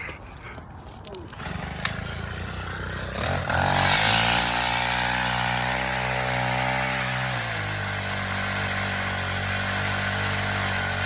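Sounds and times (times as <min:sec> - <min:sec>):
chainsaw engine revving: 0:01.3 - 0:11.0.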